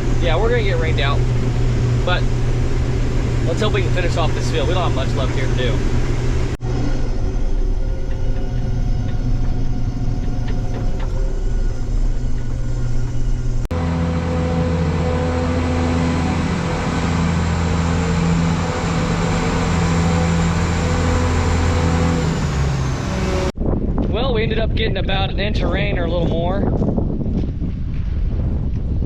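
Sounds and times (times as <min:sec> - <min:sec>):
combine harvester engine drone: 0:00.0 - 0:23.6.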